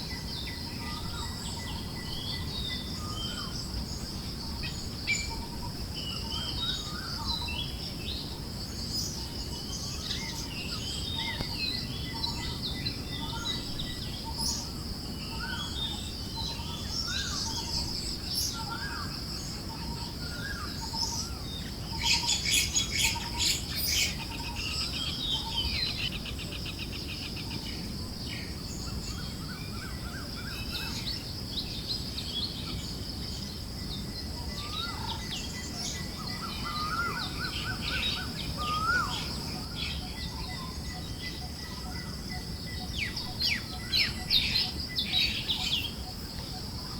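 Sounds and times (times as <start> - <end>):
forest birds chirping: 0.0 - 46.9.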